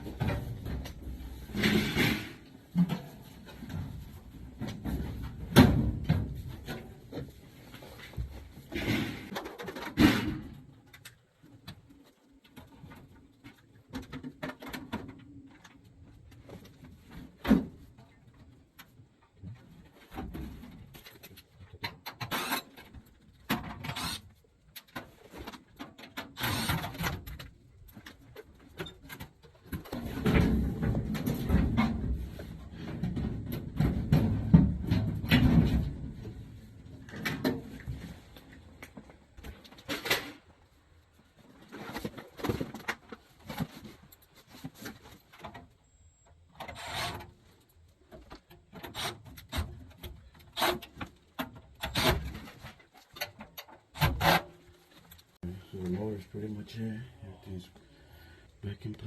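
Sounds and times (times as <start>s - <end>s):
clunks and knocks of parts: 0.0s - 56.0s.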